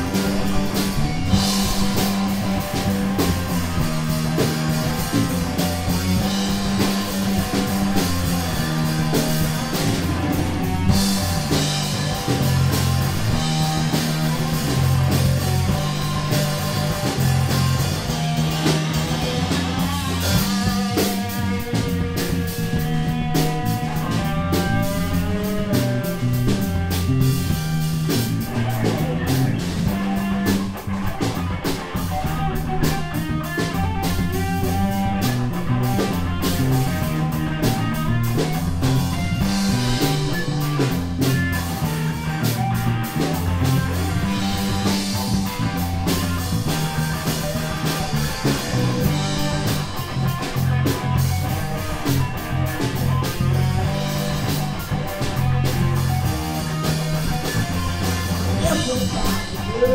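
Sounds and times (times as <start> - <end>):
rock band playing live: 0.0 - 59.9
sustained electric guitar line: 0.0 - 59.9.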